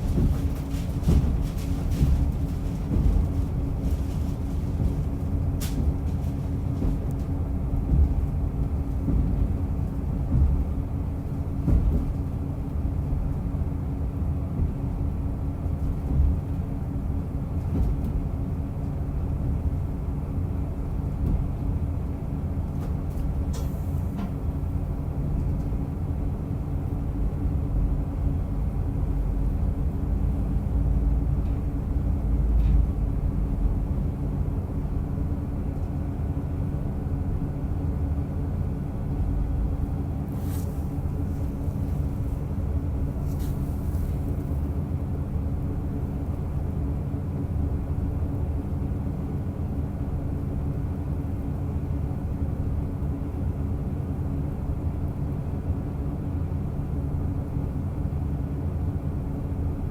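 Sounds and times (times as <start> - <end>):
engine hum: 0.0 - 59.8
railcar rumble: 0.0 - 59.9.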